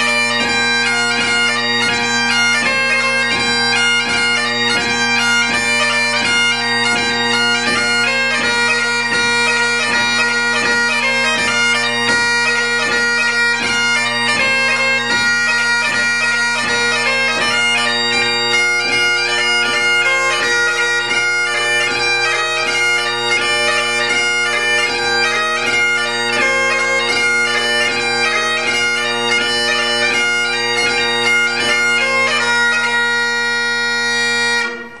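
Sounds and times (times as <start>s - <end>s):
bagpipe chanter melody: 0.0s - 35.0s
bagpipe drones: 0.0s - 35.0s.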